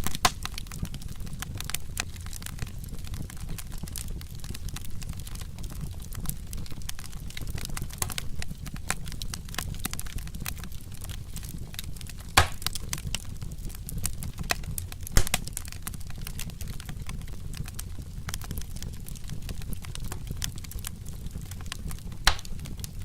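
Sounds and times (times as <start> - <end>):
loud fire pops: 0.0 - 23.0
low rumble of flames: 0.0 - 23.0
wood fire crackling: 0.0 - 23.0.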